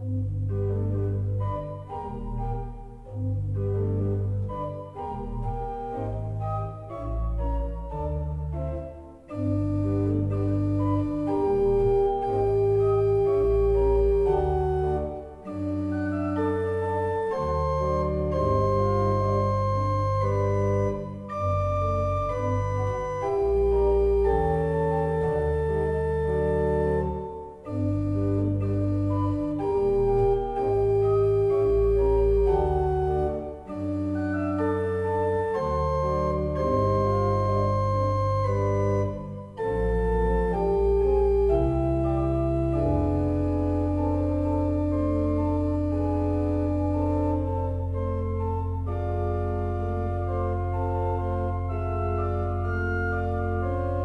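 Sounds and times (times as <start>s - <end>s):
pipe organ playing: 0.0s - 54.0s.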